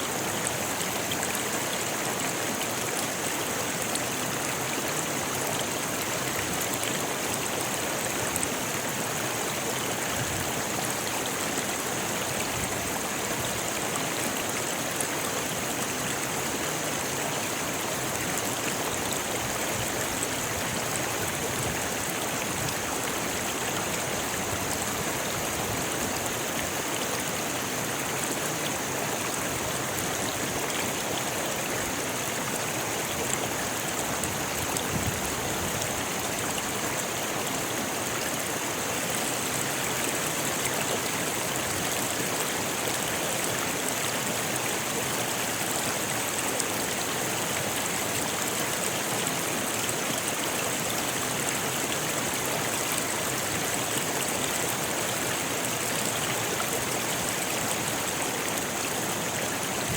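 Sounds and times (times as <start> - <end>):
river rushing over stones: 0.0 - 59.9.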